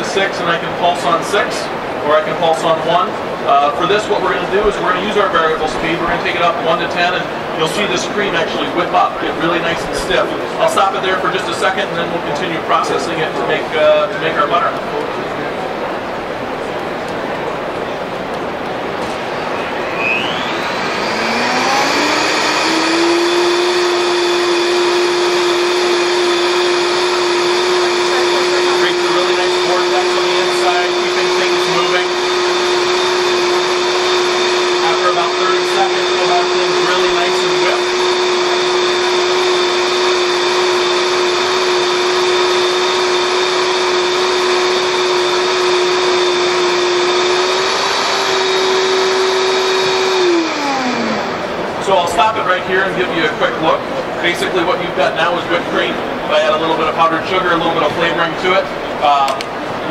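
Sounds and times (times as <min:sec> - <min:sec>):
blender motor running: 0:03.1 - 0:14.9, 0:15.8 - 0:59.9.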